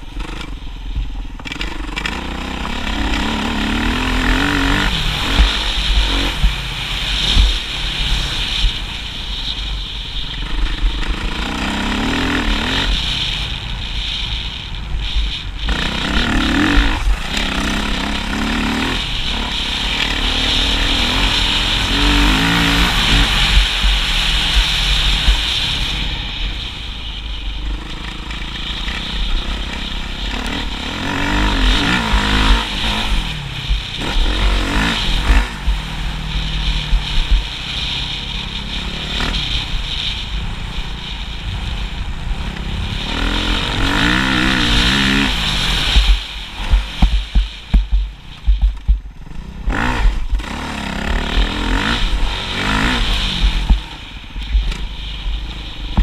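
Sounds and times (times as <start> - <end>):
constant low rumble: 0.0 - 56.0
motorcycle engine revving: 0.0 - 56.0.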